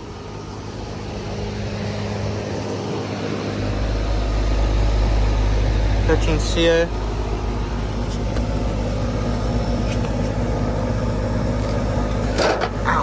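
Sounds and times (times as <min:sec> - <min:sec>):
fan whooshing: 0:00.0 - 0:12.8
compressor hum: 0:00.0 - 0:13.0.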